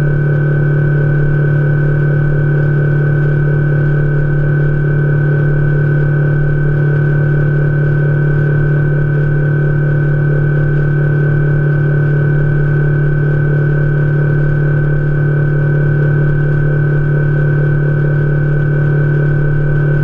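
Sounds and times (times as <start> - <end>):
outboard motor droning: 0.0 - 20.0.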